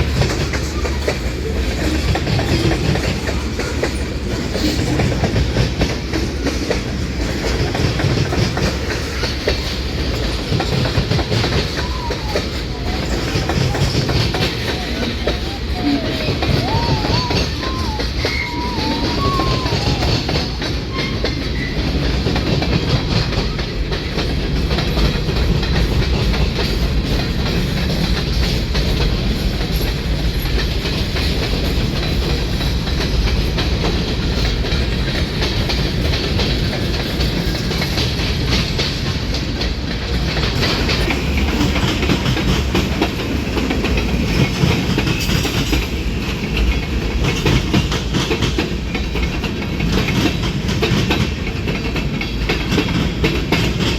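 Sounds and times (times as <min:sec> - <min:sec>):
freight train rumble: 0:00.0 - 0:53.9
train wheels clacking on rails: 0:00.0 - 0:53.9.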